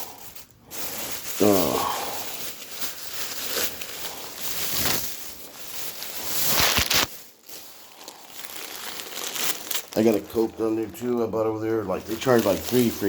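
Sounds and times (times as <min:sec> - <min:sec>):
food packaging rustling: 0:00.0 - 0:13.0.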